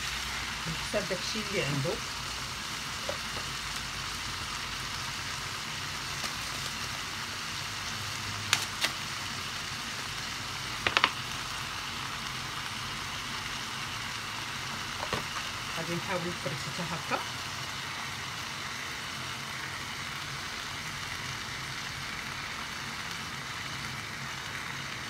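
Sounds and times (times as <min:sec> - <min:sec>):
vegetables sizzling in a frying pan: 0:00.0 - 0:25.0.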